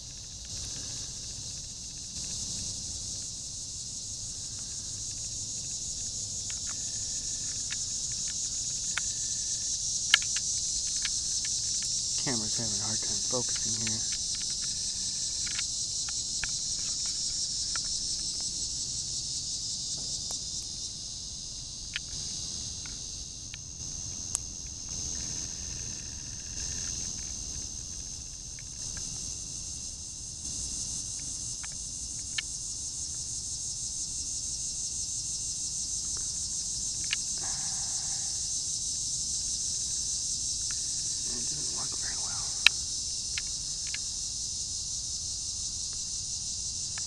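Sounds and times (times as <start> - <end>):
crickets chirping: 0.0 - 47.0.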